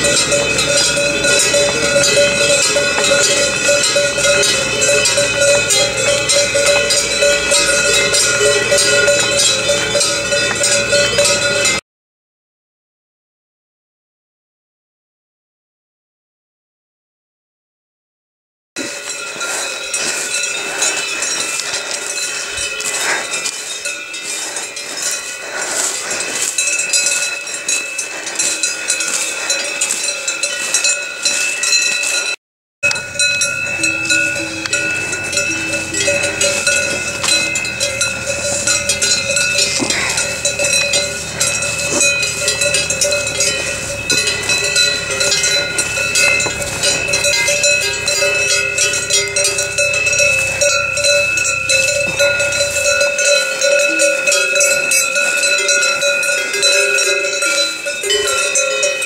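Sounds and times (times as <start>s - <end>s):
cowbells clanking: 0.0s - 11.8s, 18.8s - 59.0s.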